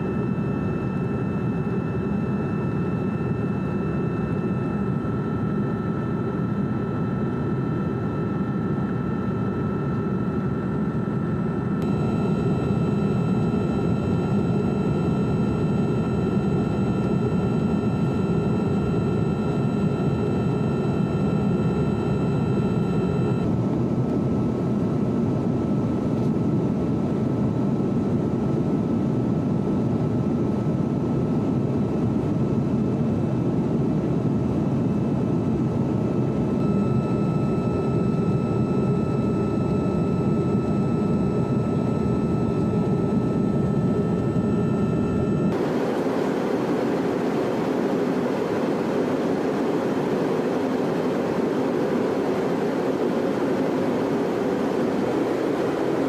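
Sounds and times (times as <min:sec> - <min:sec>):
faint high whine: 0:00.0 - 0:23.7, 0:34.5 - 0:56.0
jet engine and airflow drone: 0:00.0 - 0:56.0.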